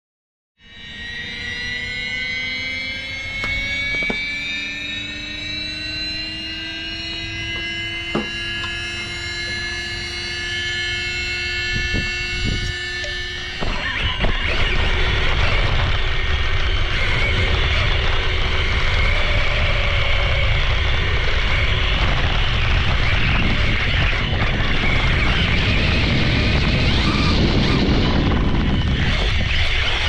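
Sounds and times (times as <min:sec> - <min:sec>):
electric motor whining: 0:00.6 - 0:30.0.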